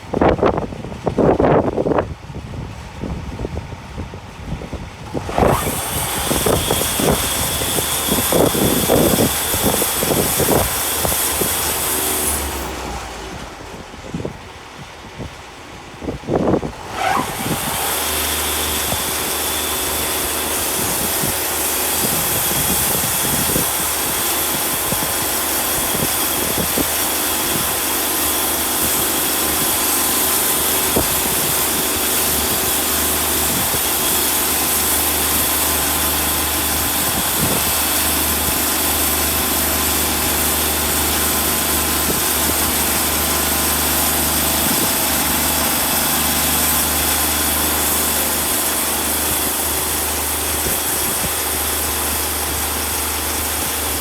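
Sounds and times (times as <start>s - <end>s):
sawmill engine running: 0.0s - 54.0s
band blade sawing a log: 5.1s - 13.0s, 16.7s - 54.0s.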